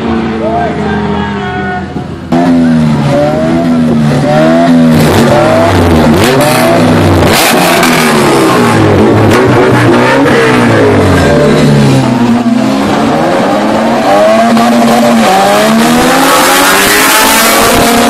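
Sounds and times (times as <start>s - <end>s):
car engine revving: 1.8s - 18.0s.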